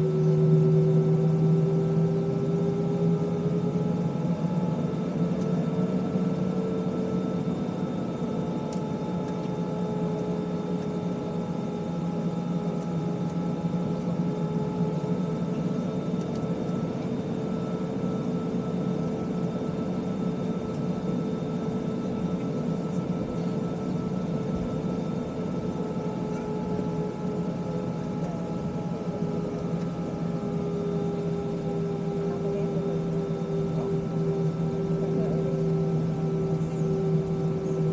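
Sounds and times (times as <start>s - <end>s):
jet engines heard from cabin: 0.0s - 37.9s.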